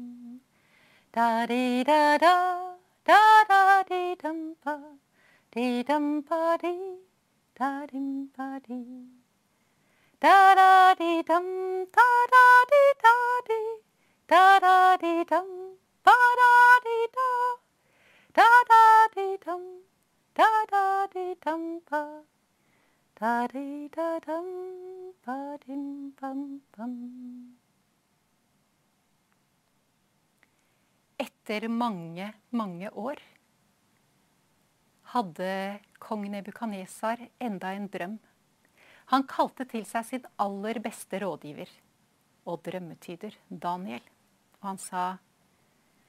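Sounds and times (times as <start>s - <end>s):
woman singing unaccompanied: 0.0s - 9.3s, 10.1s - 22.4s, 23.1s - 27.6s, 31.2s - 33.4s, 35.0s - 38.4s, 39.0s - 45.3s.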